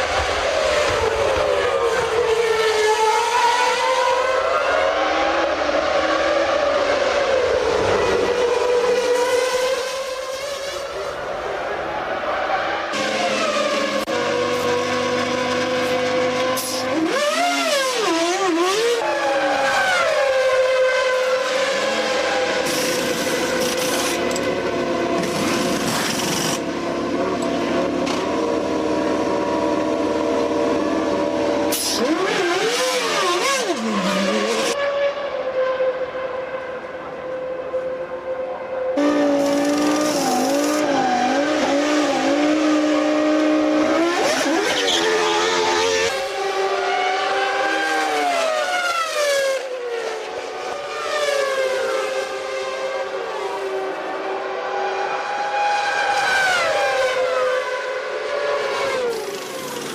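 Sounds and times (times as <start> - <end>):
racing car engines passing: 0.0 - 59.9.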